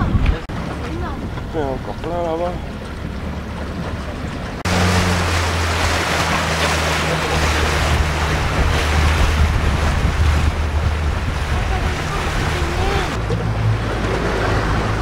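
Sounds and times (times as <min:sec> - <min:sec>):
boat engine humming: 0:00.0 - 0:15.0
wind and water rushing: 0:00.0 - 0:15.0.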